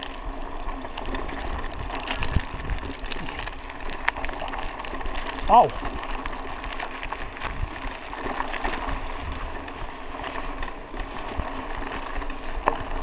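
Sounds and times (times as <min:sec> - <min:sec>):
bike clicking and rattling: 0:00.0 - 0:13.0
bike tyres on loose dirt: 0:00.0 - 0:13.0.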